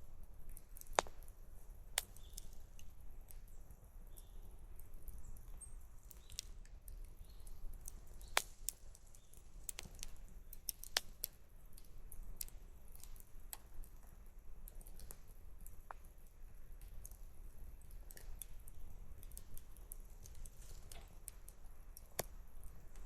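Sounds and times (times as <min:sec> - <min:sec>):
campfire crackling and popping: 0:00.1 - 0:23.0.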